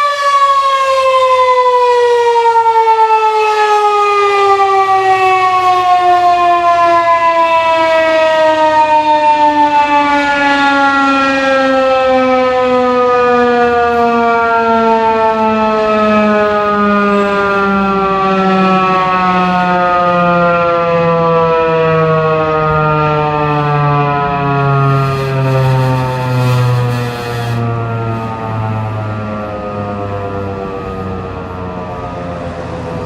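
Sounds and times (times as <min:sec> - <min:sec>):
warning siren winding down: 0:00.0 - 0:33.0.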